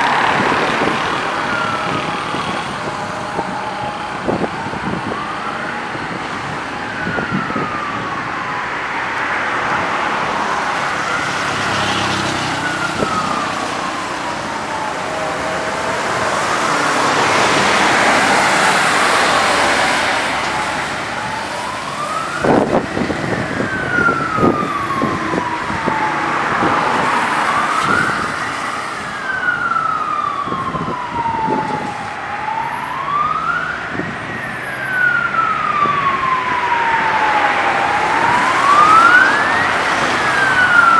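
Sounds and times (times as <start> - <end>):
emergency siren wailing: 0.0 - 40.9
traffic on wet road: 0.0 - 40.9.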